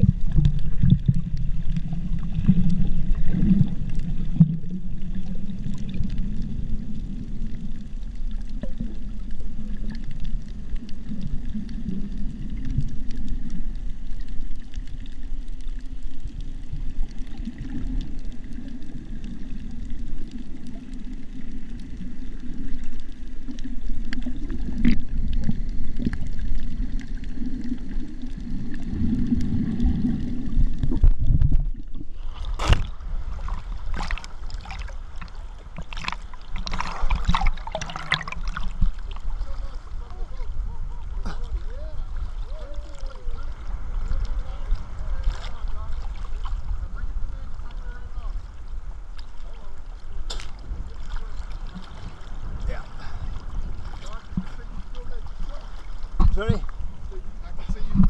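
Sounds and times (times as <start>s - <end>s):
underwater rumble of moving water: 0.0s - 58.0s.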